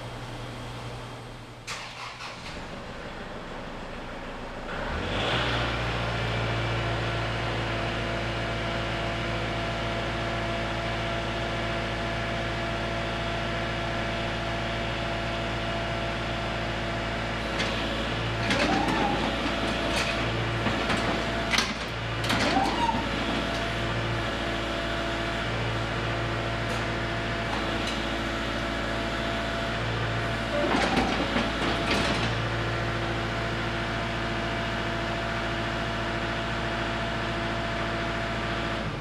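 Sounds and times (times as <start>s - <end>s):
diesel tractor engine running: 0.0s - 39.0s.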